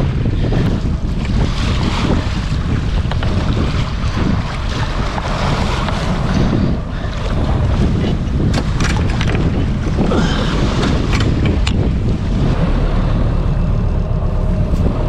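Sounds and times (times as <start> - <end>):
water washing along hull: 0.0 - 15.0
wind buffeting microphone: 0.0 - 15.0.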